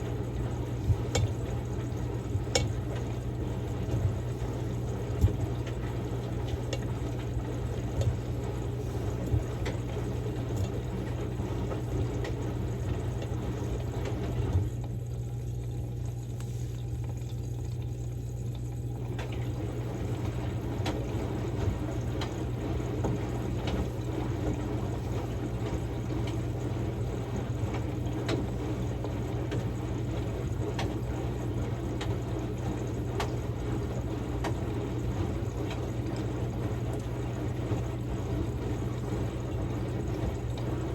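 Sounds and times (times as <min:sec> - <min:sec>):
washing machine motor hum: 0:00.0 - 0:40.9
water sloshing in drum: 0:00.0 - 0:40.9.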